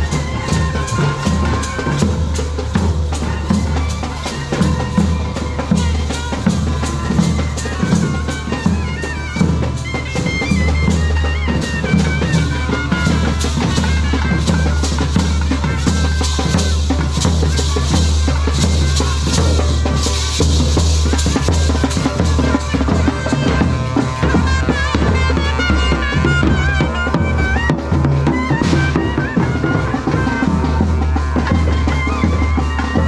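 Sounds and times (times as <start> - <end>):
drums beating: 0.0 - 33.0
hand cymbals clashing: 0.0 - 33.0.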